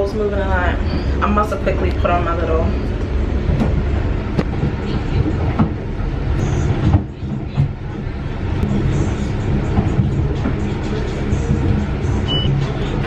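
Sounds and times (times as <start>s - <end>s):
boat cabin low rumble: 0.0s - 13.0s.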